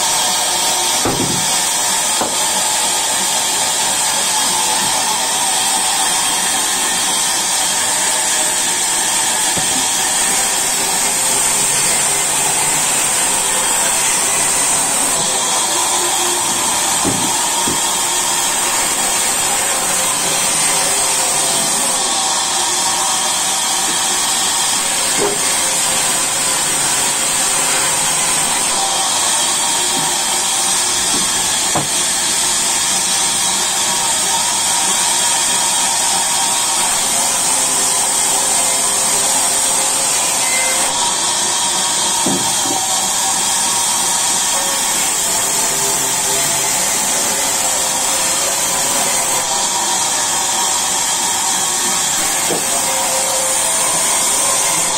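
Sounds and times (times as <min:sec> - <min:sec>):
band saw cutting log: 0:00.0 - 0:54.9.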